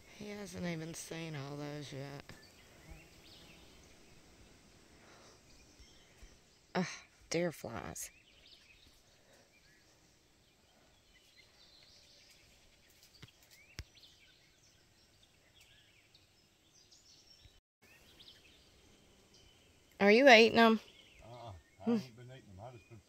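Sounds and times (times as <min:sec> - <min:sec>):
distant bird chirps: 0:00.0 - 0:23.0.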